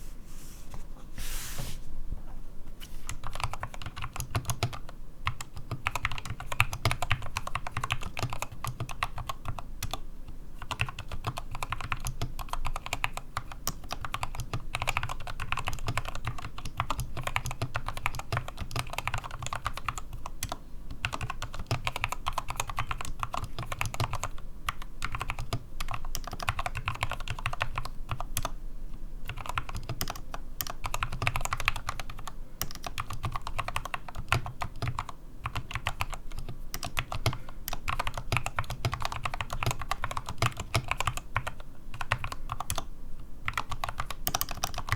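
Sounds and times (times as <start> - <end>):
fast typing on mechanical keyboard: 3.1 - 10.0, 10.6 - 28.6, 29.2 - 44.9.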